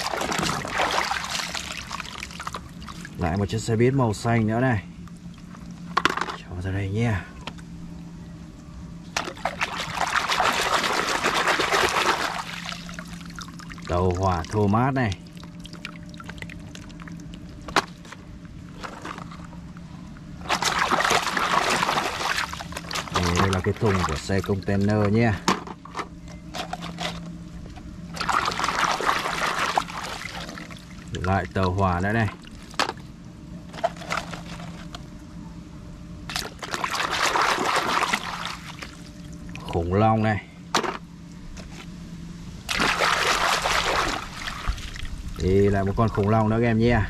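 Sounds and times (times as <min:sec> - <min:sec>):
water sloshing and splashing: 0:00.0 - 0:06.5, 0:09.1 - 0:35.1, 0:36.2 - 0:40.0, 0:42.6 - 0:46.7.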